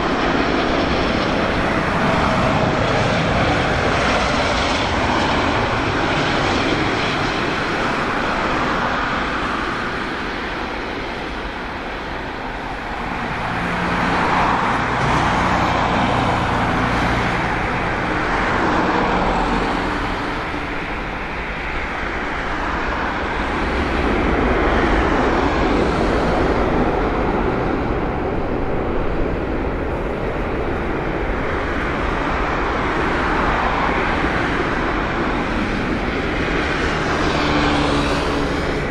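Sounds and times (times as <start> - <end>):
jet engine rumble: 0.0 - 38.9.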